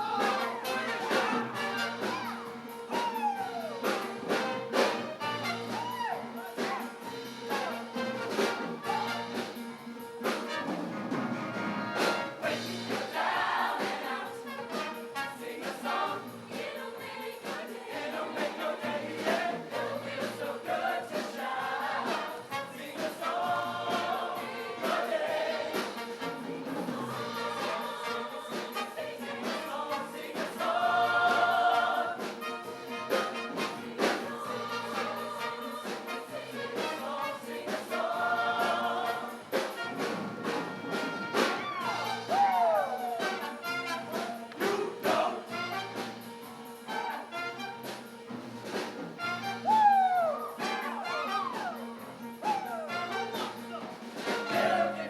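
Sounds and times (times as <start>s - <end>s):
steady drum beat: 0.0s - 46.4s
choir singing in parts: 0.0s - 47.9s, 48.7s - 55.0s.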